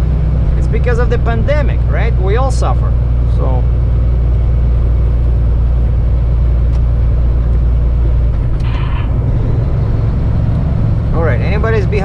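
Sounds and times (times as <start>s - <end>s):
road noise: 0.0s - 12.0s
truck diesel engine droning: 0.0s - 12.0s.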